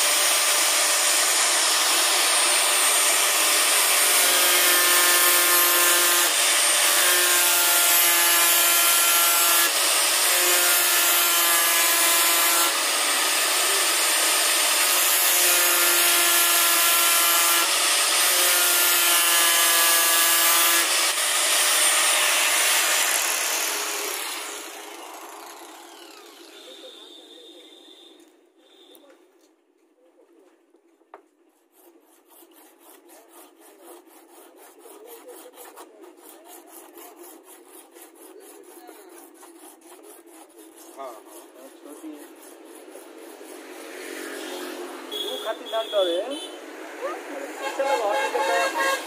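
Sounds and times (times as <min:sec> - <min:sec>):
power tool running: 0:00.0 - 0:27.2, 0:34.1 - 0:49.0.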